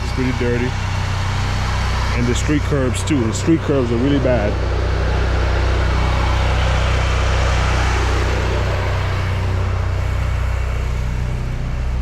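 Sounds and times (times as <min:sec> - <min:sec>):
engine humming: 0:00.0 - 0:12.0
rushing noise: 0:00.0 - 0:12.0.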